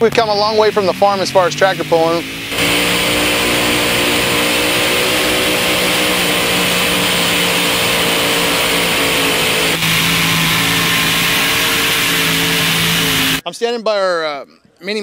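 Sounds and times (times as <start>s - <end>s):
tractor engine at high revs: 0.0s - 13.4s.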